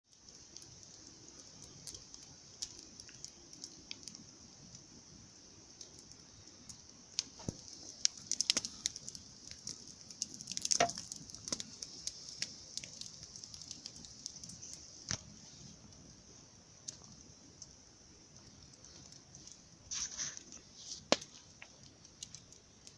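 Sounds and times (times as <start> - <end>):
campfire crackling: 0.1 - 22.9.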